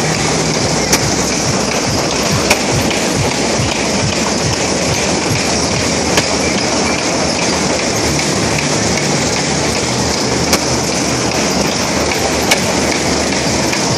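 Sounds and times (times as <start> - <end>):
ride cars rumbling rattle: 0.0 - 13.9.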